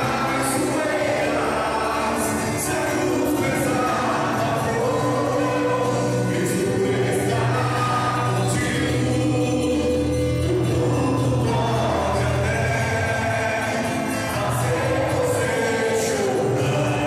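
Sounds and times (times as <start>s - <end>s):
congregation singing: 0.0s - 17.0s.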